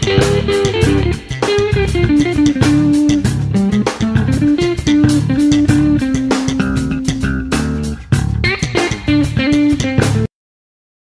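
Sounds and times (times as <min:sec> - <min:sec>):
bass and drums: 0:00.0 - 0:10.3
guitar melody: 0:00.0 - 0:10.3
instrumental background music: 0:00.0 - 0:10.3.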